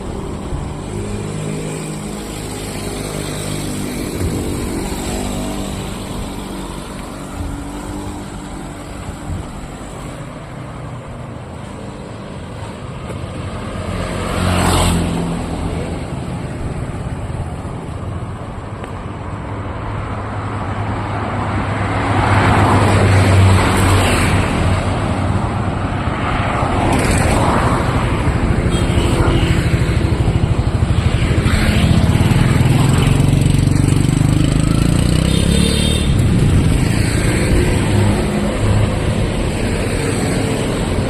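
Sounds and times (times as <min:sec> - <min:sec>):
road noise hum: 0:00.0 - 0:41.0
vehicles passing close by: 0:00.0 - 0:41.0.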